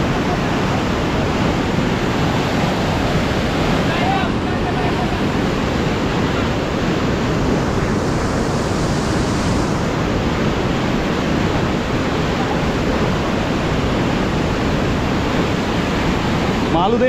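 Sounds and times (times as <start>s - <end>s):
river water rushing over weir: 0.0s - 17.0s.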